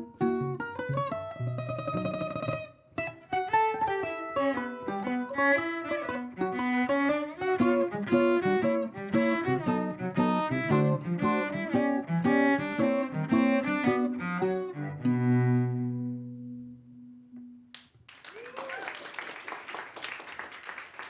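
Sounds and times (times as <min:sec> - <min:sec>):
cello: 0:00.0 - 0:17.1
plucked string melody: 0:00.0 - 0:17.7.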